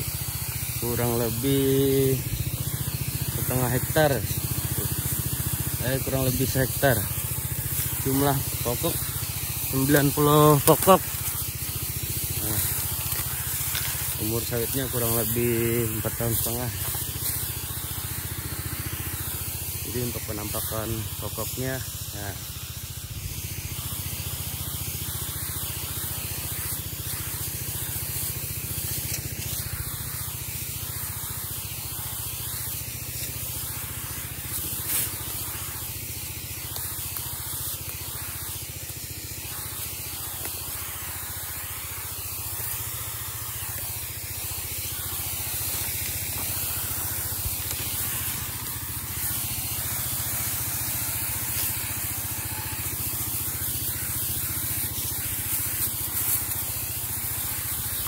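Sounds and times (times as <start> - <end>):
hose nozzle spray hissing: 0.0 - 58.0.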